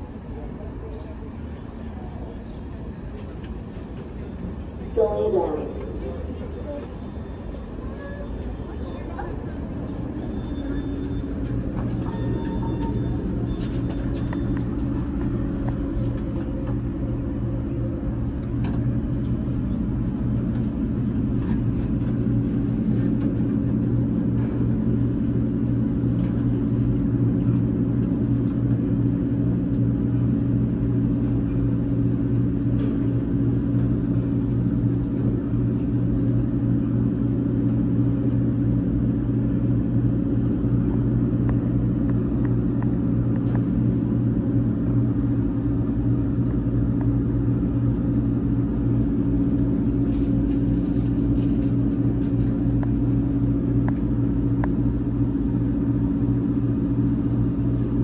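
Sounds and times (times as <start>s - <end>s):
elevator travelling with low hum: 0.0s - 58.0s.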